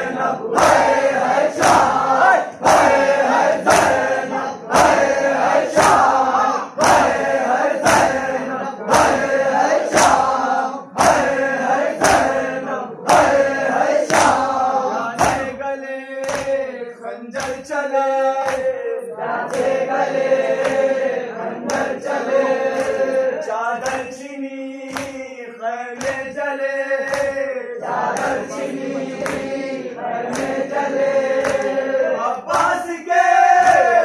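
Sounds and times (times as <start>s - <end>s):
men chanting in unison: 0.0s - 34.0s.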